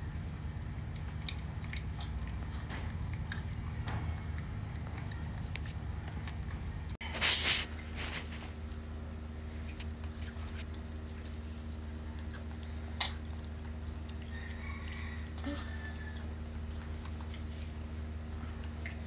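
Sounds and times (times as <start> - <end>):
steady room hum: 0.0 - 19.0.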